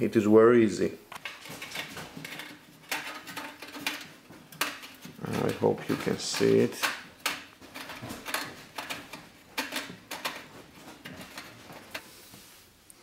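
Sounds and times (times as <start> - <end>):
threaded rod scraping sheet metal: 1.2 - 12.2.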